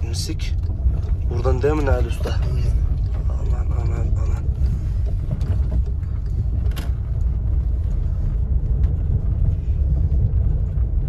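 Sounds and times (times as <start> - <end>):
car driving rumble inside cabin: 0.0 - 11.0.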